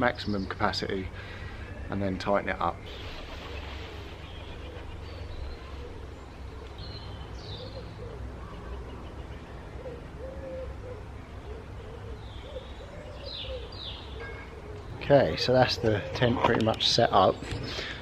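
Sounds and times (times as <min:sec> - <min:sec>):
small birds chirping: 0:00.0 - 0:18.0
low cooing bird calls: 0:00.5 - 0:18.0.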